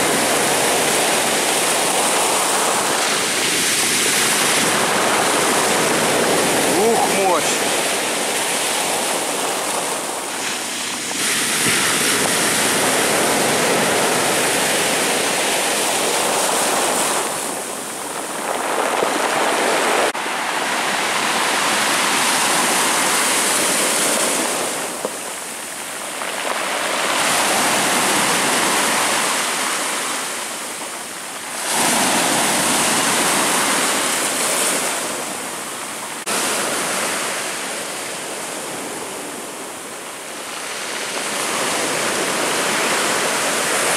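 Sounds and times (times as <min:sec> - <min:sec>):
heavy surf waves breaking: 0:00.0 - 0:43.9.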